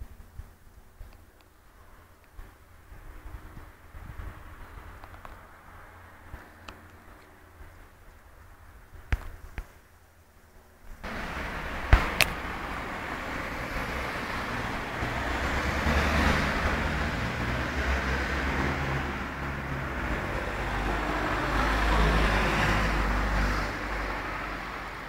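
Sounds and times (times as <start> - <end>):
road traffic rumble: 0.1 - 25.0.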